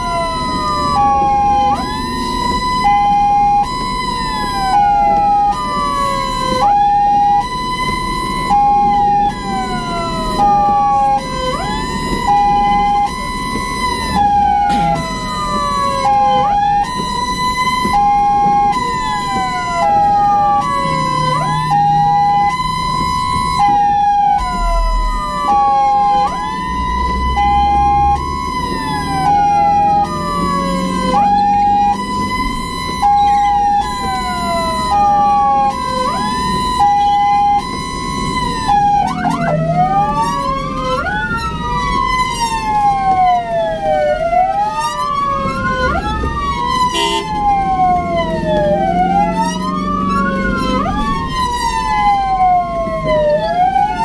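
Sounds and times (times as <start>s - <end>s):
ambulance siren: 0.0s - 54.0s
low vehicle rumble: 0.0s - 54.0s.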